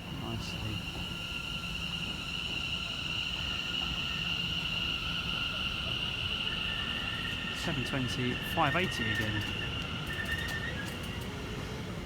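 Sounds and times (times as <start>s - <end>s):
electric train whine and rumble: 0.0s - 12.0s.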